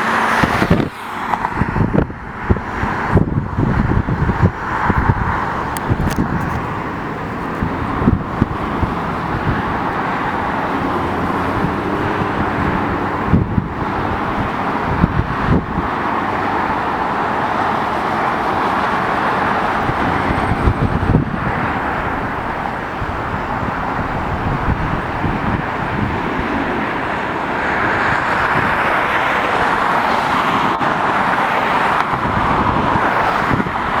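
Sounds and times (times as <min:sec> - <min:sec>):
jet engine rushing: 0:00.0 - 0:34.0
wind buffeting microphone: 0:00.0 - 0:34.0.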